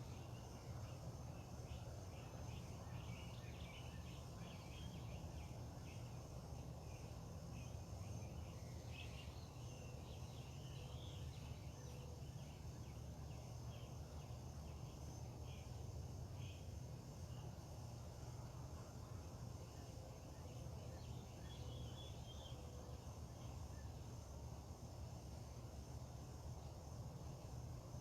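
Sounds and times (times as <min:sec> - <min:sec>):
high insect hum: 0:00.0 - 0:28.0.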